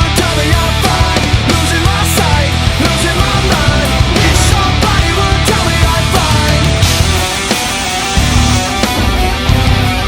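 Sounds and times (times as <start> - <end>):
loud hard rock music: 0.0 - 10.0.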